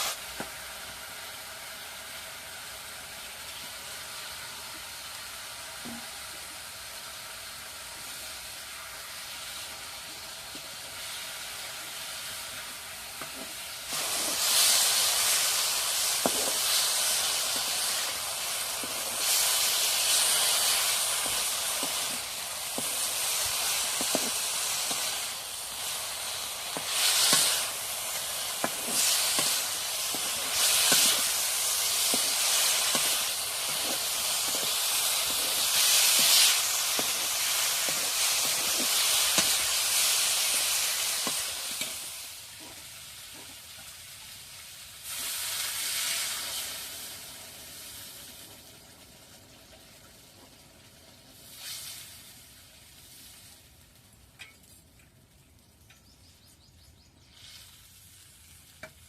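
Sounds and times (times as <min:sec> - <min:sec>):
food sizzling in hot oil: 0:00.0 - 0:54.8, 0:57.2 - 0:59.0.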